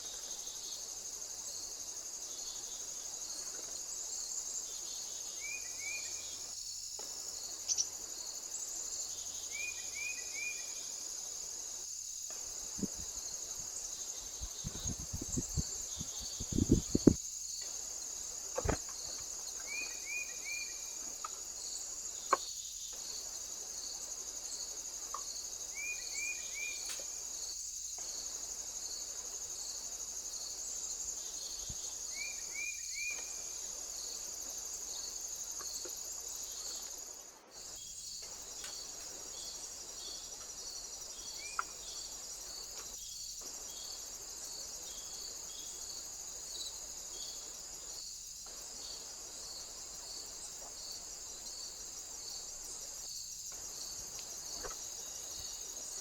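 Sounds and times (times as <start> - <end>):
insects trilling and chirping: 0.0 - 56.0.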